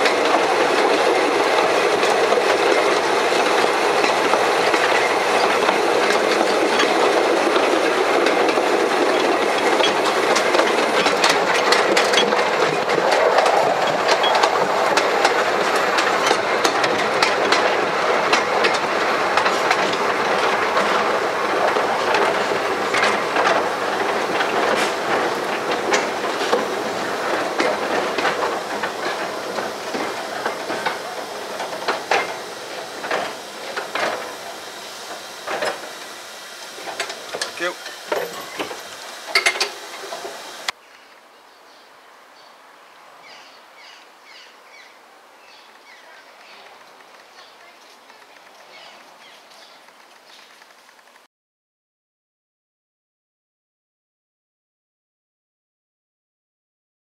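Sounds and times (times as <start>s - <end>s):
train wheels rumbling on rail: 0.0s - 40.8s, 44.4s - 51.3s.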